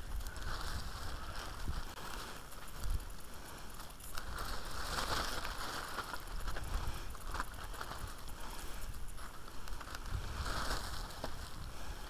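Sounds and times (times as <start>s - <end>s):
net and grass rustling: 0.0s - 12.0s.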